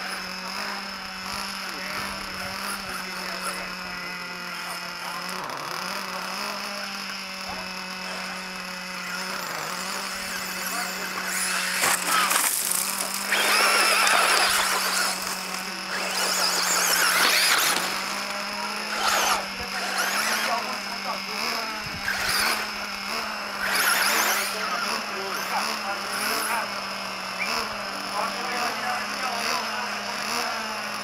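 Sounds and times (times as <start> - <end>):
remote control car motor whining: 0.0 - 31.0
tyres churning loose dirt: 0.0 - 31.0.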